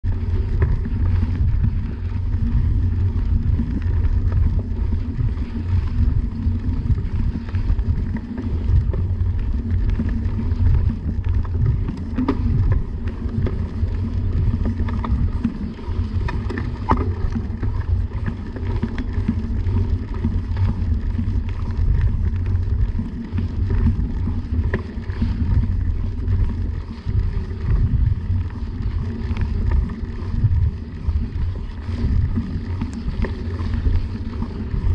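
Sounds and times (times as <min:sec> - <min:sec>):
bike clicks and rattles: 0:00.0 - 0:34.9
tyres rumbling on dirt: 0:00.0 - 0:34.9
wind buffeting microphone: 0:00.0 - 0:34.9.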